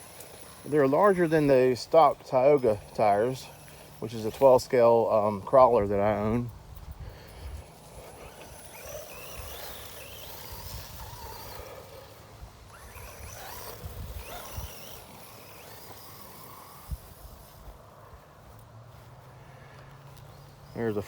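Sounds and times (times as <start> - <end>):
electric motor whining: 0.0 - 18.2, 19.0 - 21.0.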